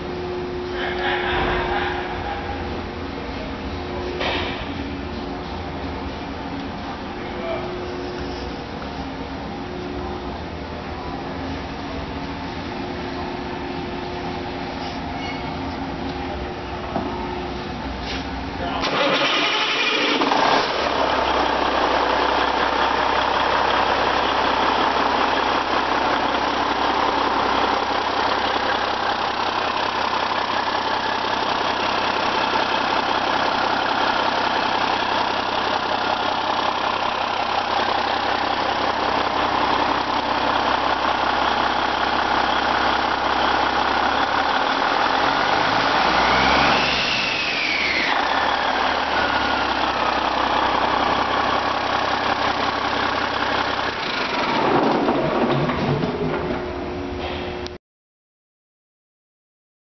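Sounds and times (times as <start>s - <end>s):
diesel engine idling: 0.0s - 55.1s.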